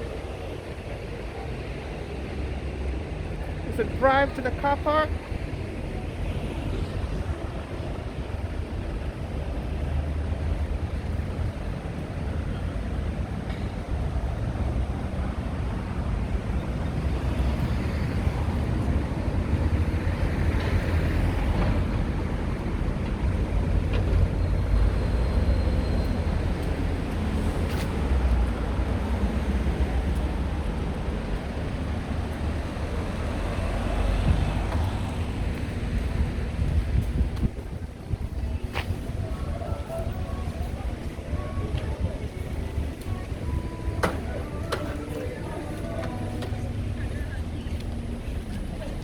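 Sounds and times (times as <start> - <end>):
vehicle and street rumble: 0.0 - 49.0.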